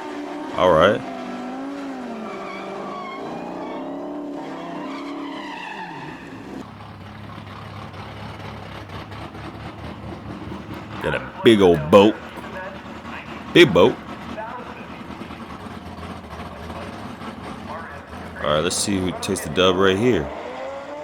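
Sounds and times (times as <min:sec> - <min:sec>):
car engines revving: 0:00.0 - 0:21.0
engine and tyre noise: 0:00.0 - 0:21.0.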